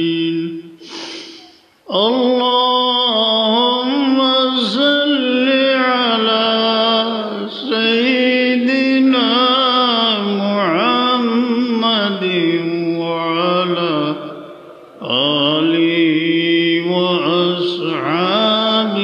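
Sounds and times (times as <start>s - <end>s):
man chanting over microphone: 0.0s - 0.8s, 1.9s - 19.0s.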